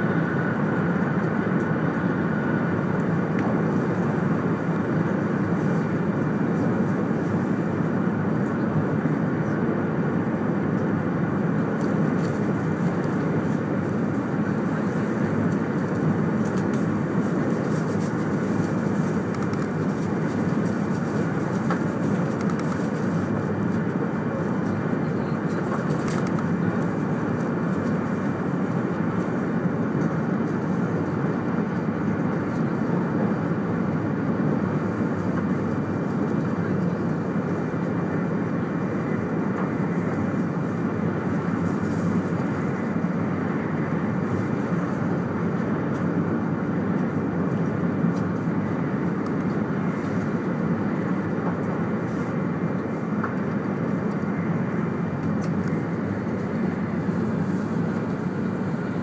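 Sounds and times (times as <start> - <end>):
train running noise: 0.0 - 59.0.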